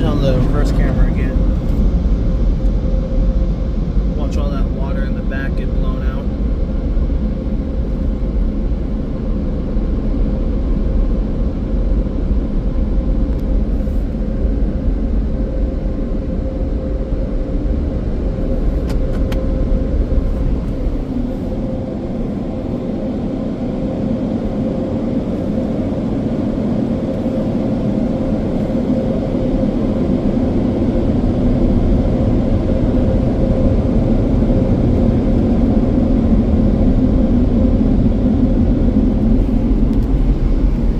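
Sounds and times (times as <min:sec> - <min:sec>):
car wash dryer blowers: 0:00.0 - 0:40.9.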